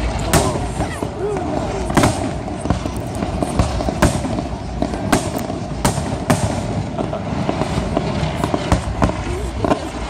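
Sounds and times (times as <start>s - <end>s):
firework shells bursting: 0.0s - 10.0s.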